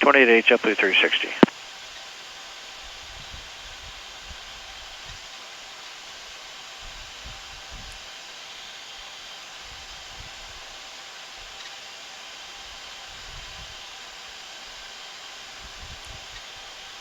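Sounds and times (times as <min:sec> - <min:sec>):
cockpit rushing hiss: 0:00.0 - 0:17.0.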